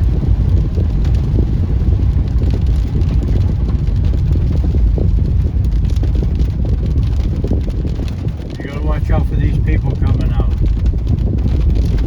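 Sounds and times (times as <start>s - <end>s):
car on wet road rumble: 0.0s - 12.0s.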